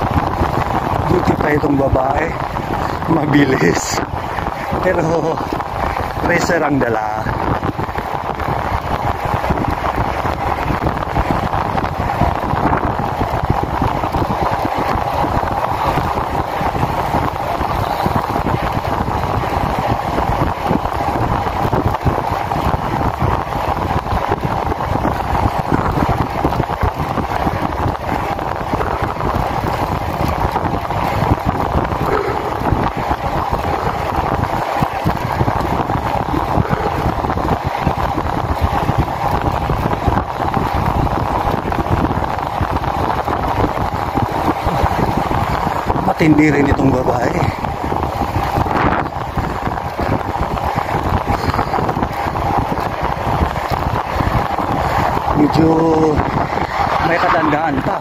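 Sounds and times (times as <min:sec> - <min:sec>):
rushing hum of bike ride: 0:00.0 - 0:58.0
wind buffeting microphone: 0:00.0 - 0:58.0.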